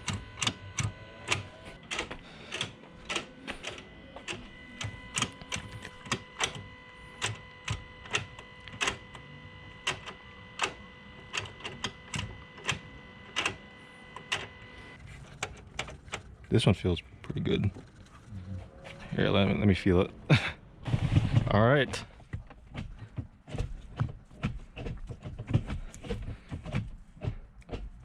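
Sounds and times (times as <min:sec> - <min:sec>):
gear shifter clicks and clunks: 0:00.0 - 0:16.4, 0:20.9 - 0:28.0.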